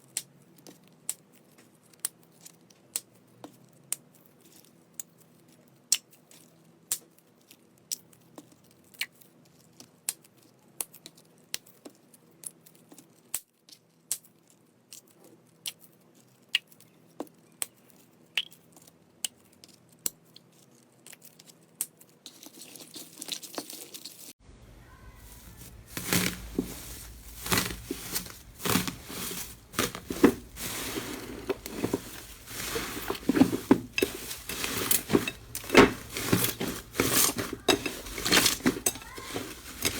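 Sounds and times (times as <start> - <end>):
slime crackling and crunching: 0.1 - 39.9.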